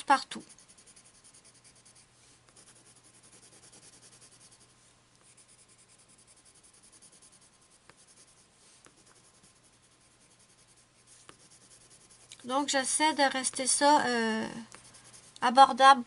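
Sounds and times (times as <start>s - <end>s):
pencil scratching on paper: 0.0s - 15.6s.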